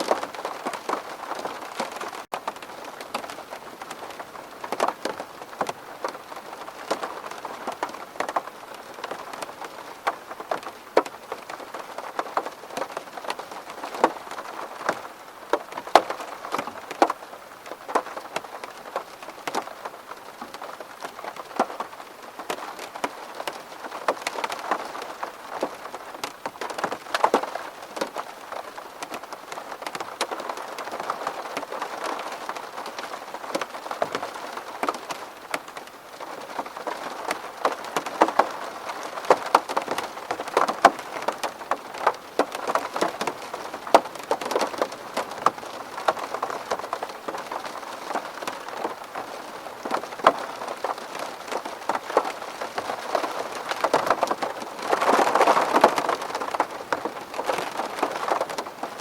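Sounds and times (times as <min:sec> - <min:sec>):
rain on window glass: 0:00.0 - 0:59.0.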